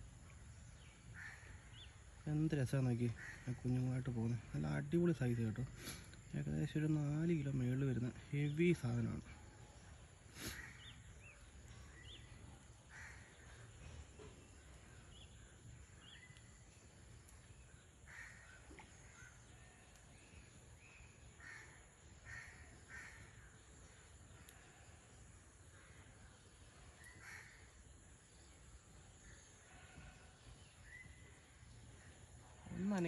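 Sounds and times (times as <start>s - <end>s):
faint crows cawing: 0.2s - 33.0s.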